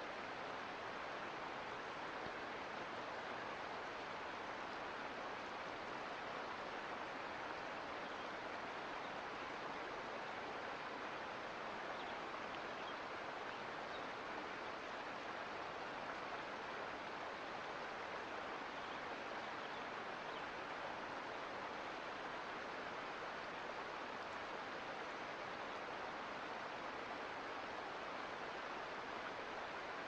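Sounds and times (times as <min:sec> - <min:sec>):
creek flowing over rocks: 0:00.0 - 0:30.0.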